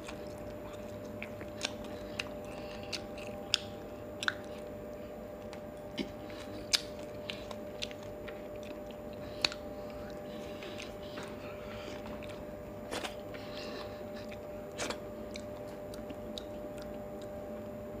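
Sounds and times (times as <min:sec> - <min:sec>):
person chewing food: 0:00.0 - 0:17.8
faint steady hum: 0:00.0 - 0:18.0.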